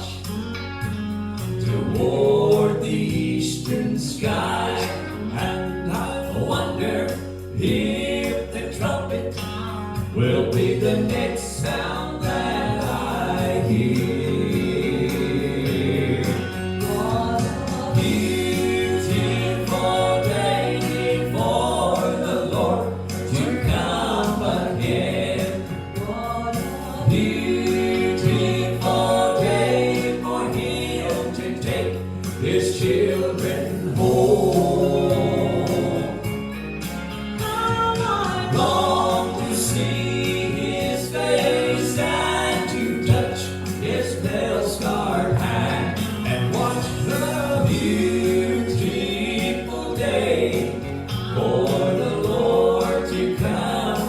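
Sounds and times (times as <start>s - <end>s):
gospel trio singing in harmony: 0.0s - 54.0s
instrumental accompaniment with bass: 0.0s - 54.0s.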